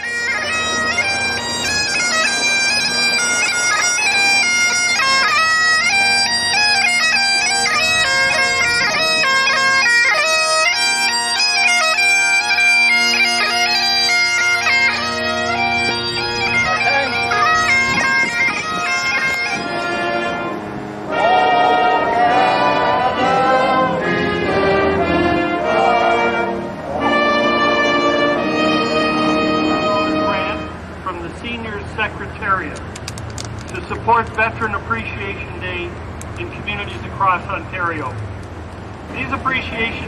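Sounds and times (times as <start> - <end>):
bagpipes playing: 0.0 - 32.6.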